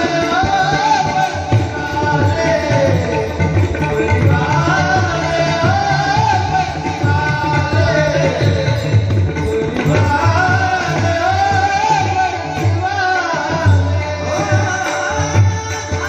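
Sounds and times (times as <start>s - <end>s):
hand drums playing: 0.0s - 16.0s
man singing devotional song: 0.0s - 16.0s.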